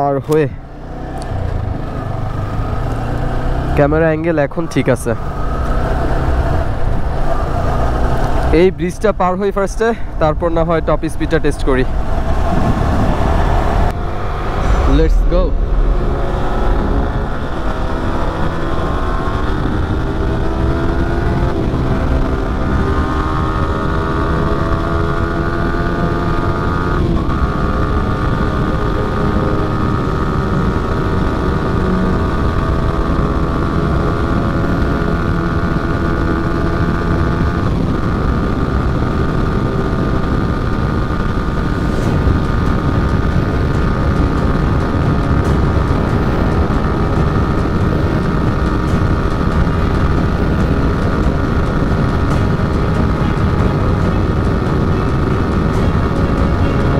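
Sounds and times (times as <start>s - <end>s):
motorcycle engine accelerating: 0.0s - 56.9s
wind noise: 10.0s - 56.9s.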